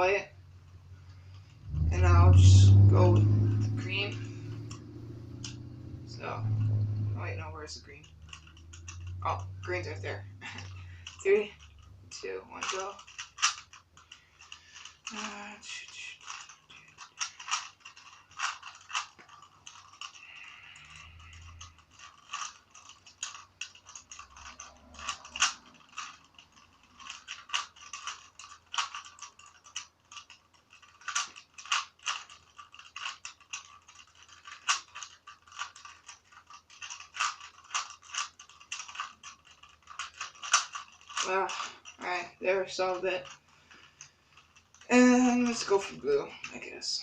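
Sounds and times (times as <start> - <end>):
plastic puzzle cube clicking: 3.6 - 5.7, 7.9 - 46.9.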